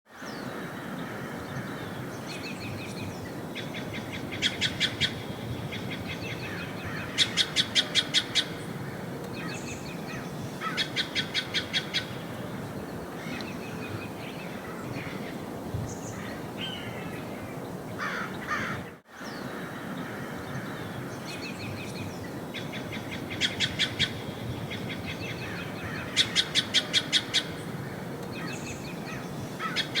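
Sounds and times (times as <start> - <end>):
steady background hiss: 0.2 - 30.0.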